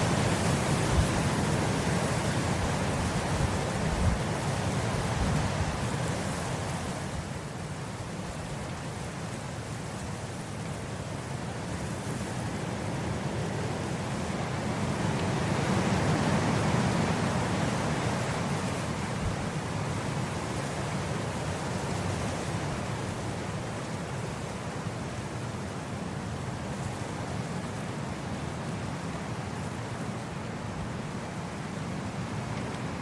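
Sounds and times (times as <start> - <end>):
wind blowing across grass: 0.0 - 33.0.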